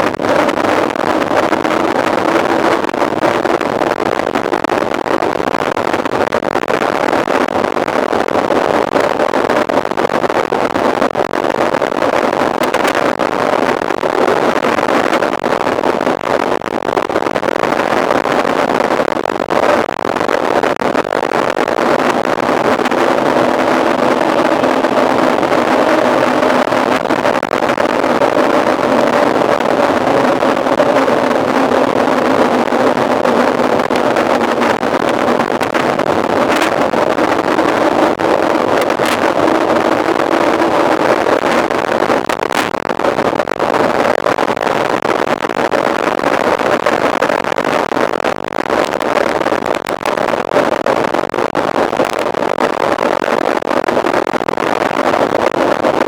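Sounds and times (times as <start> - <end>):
wind over microphone: 0.0 - 56.0.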